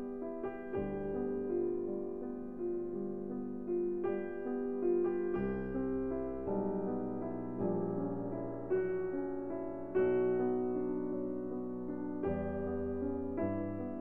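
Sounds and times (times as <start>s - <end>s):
gentle piano piece: 0.0s - 14.0s.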